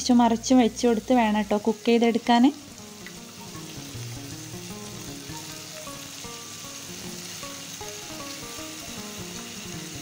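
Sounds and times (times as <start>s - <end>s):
chicken sizzling in a pan: 0.0s - 10.0s
soft background music: 0.0s - 10.0s.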